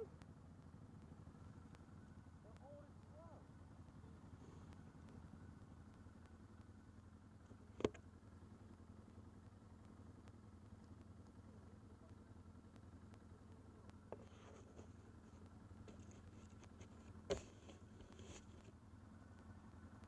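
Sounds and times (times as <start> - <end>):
atv engine idling: 0.0 - 20.0.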